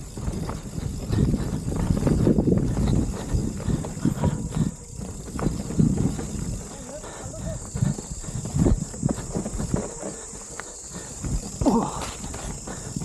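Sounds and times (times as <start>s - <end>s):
high insect-like drone: 0.0s - 13.0s
mountain bike rattling and knocking: 0.0s - 13.0s.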